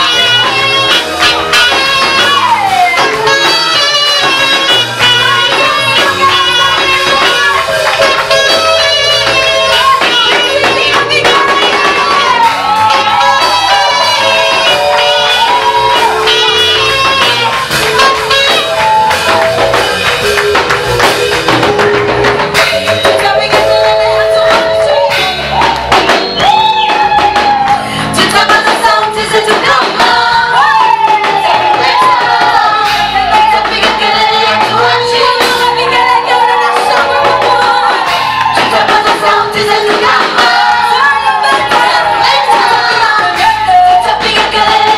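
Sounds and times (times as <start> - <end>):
people singing: 0.0 - 21.1, 22.6 - 44.9
instrumental backing with a beat: 0.0 - 44.9.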